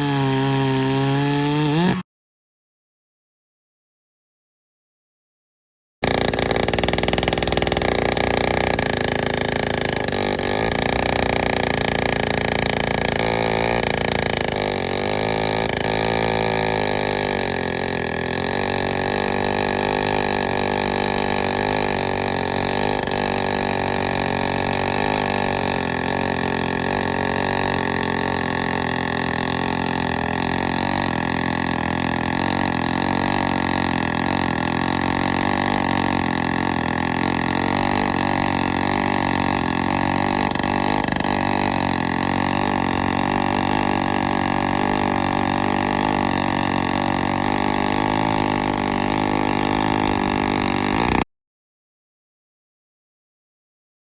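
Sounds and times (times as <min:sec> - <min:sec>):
two-stroke chainsaw engine running: 0:00.0 - 0:02.0, 0:06.0 - 0:51.3.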